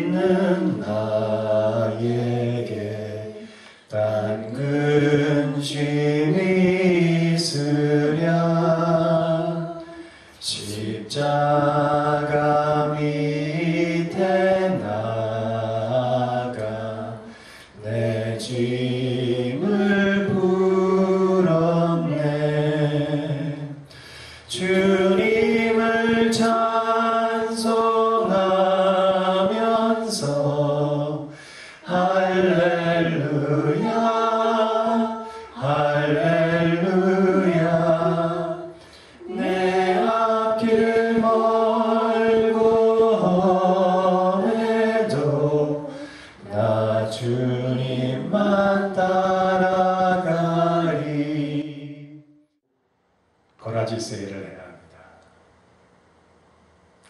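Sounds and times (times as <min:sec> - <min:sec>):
man singing unaccompanied: 0:00.0 - 0:23.8, 0:24.5 - 0:52.2.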